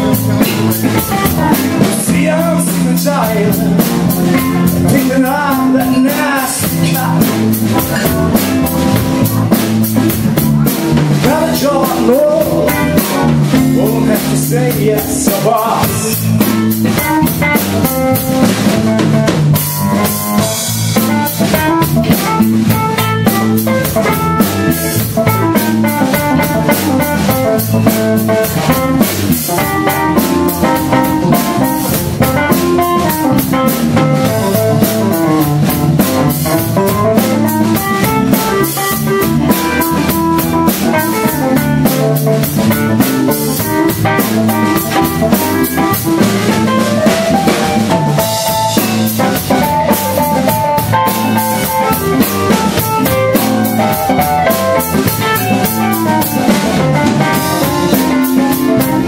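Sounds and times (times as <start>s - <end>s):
blues band playing: 0.0s - 59.0s
drum kit steady beat: 0.0s - 59.0s.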